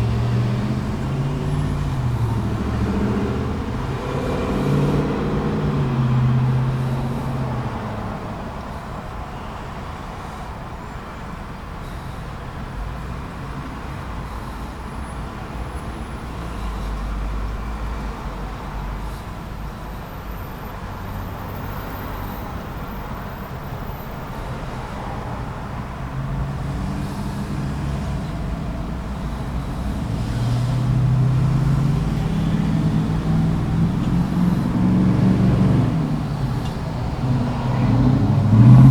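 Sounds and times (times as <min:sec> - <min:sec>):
nearby engine humming: 0:00.0 - 0:09.5, 0:14.2 - 0:38.9
passing vehicles: 0:00.0 - 0:38.9.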